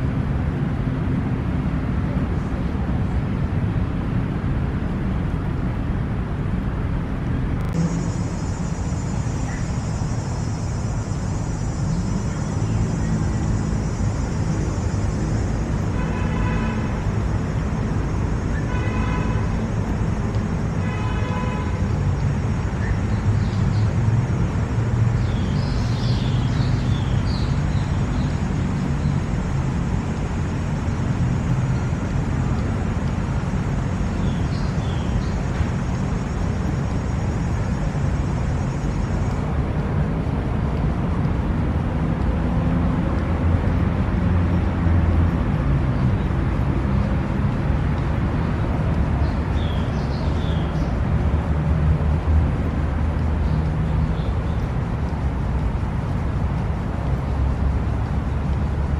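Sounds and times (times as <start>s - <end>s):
city traffic rumble: 0.0s - 58.9s.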